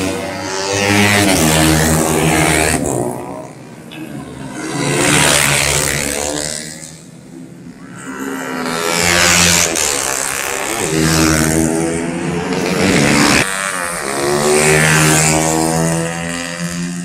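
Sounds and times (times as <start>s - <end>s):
motorcycles passing at full throttle: 0.0s - 17.0s.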